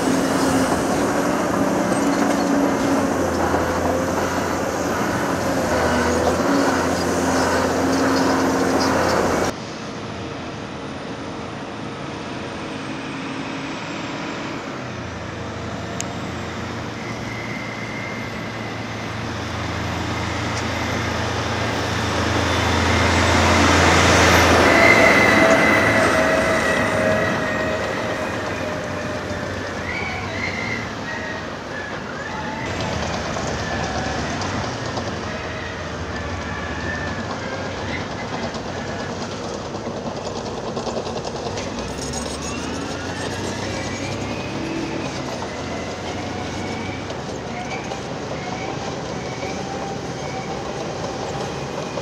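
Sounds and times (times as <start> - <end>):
heavy machine diesel engine hum: 0.0 - 52.0.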